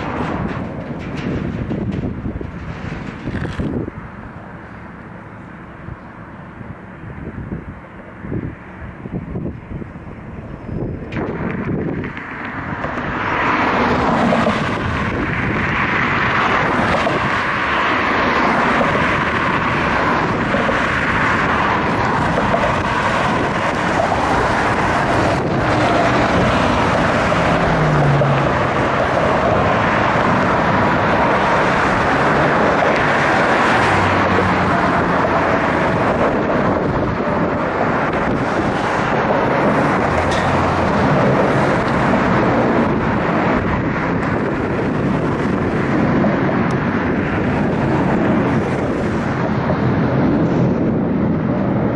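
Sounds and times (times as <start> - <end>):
jet flyover: 0.0 - 51.9.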